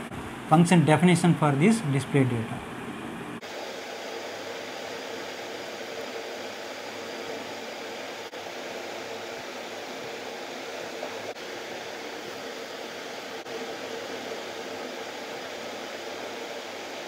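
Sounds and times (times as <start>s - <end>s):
fan hiss with faint hum: 0.0s - 17.0s.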